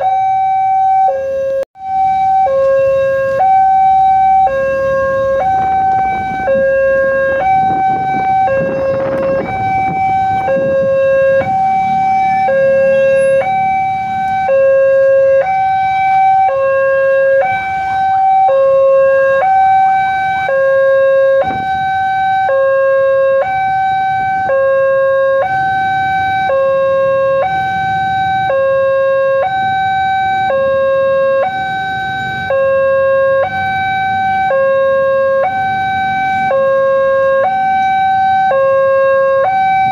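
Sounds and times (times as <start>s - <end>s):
low road traffic rumble: 0.0s - 39.9s
two-tone crossing alarm: 0.0s - 39.9s.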